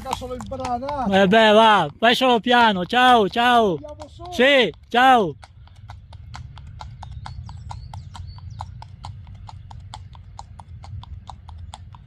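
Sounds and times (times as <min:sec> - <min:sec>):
hooves on asphalt: 0:00.0 - 0:12.0.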